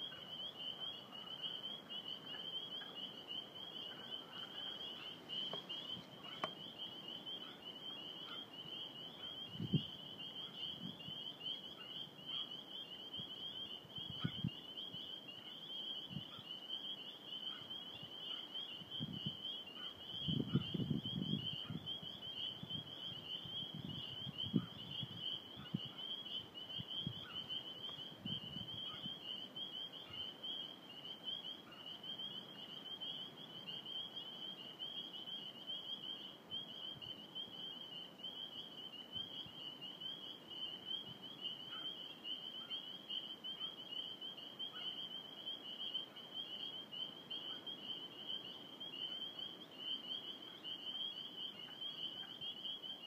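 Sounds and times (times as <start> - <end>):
frogs peeping in chorus: 0.0 - 53.0.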